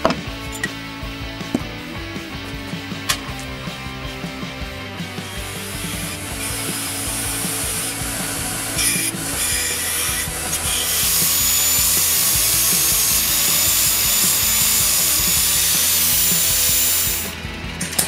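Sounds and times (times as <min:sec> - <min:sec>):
high whine: 0:00.0 - 0:18.0
power tool abrading metal: 0:00.0 - 0:18.0.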